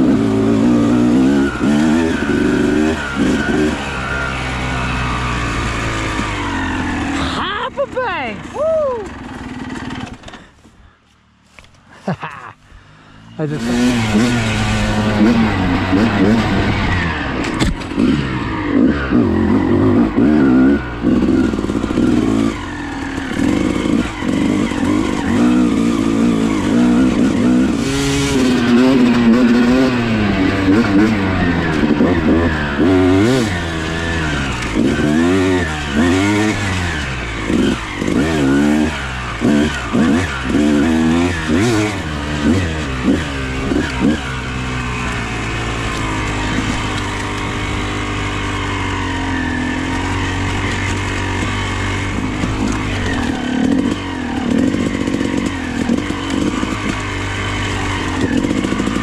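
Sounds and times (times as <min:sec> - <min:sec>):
dirt bike engine revving: 0:00.0 - 0:10.6, 0:12.2 - 0:59.0.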